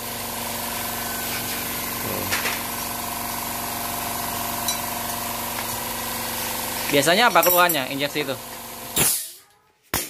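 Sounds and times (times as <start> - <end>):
machine hum: 0.0 - 9.0.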